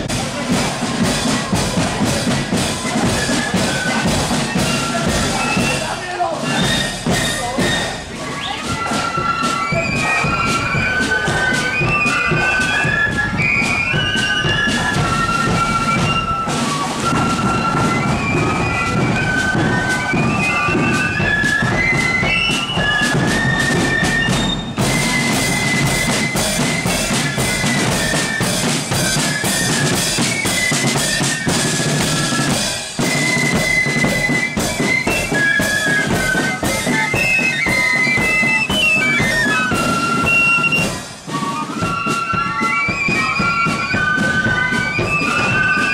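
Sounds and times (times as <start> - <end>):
flutes playing melody: 0.0 - 45.9
rapid side drum beating: 0.0 - 45.9.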